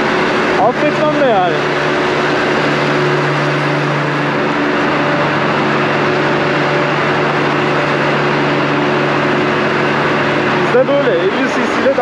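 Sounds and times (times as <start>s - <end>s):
scooter engine cruising: 0.0s - 12.0s.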